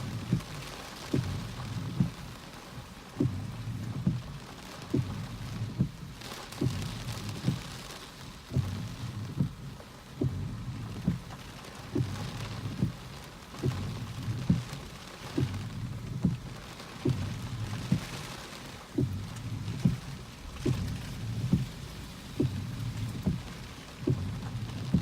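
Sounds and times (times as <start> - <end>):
rain hissing: 0.0 - 25.0.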